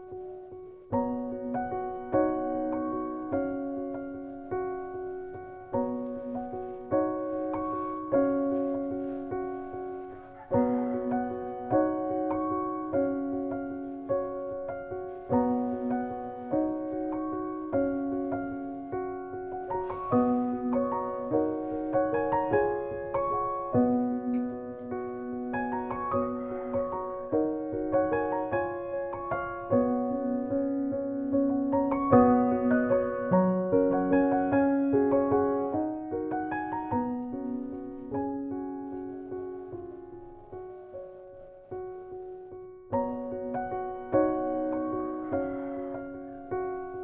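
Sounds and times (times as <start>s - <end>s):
slow piano music: 0.0s - 47.0s.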